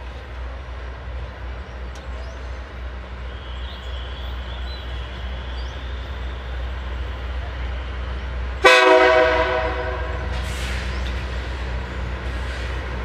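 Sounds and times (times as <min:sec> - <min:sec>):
diesel railcar rumbling: 0:00.0 - 0:13.0.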